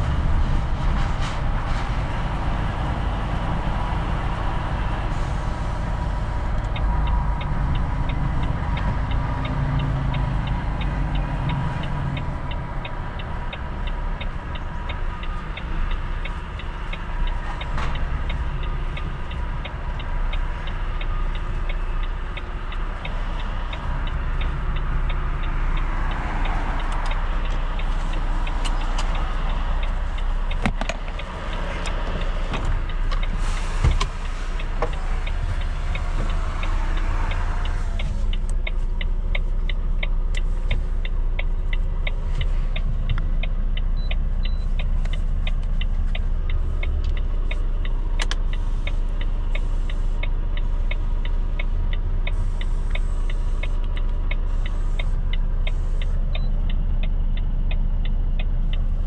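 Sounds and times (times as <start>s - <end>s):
diesel truck engine running: 0.0s - 59.0s
road noise: 0.0s - 59.0s
turn signal clicking: 5.8s - 59.0s.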